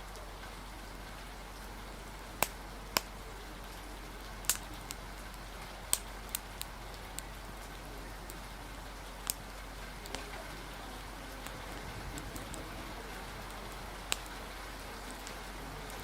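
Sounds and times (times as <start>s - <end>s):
rain hiss: 0.0s - 16.0s
wood fire popping and crackling: 0.0s - 16.0s.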